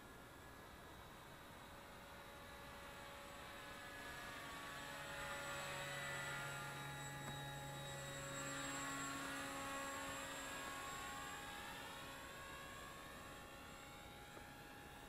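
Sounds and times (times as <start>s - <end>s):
model aircraft motor buzzing overhead: 0.0s - 15.0s.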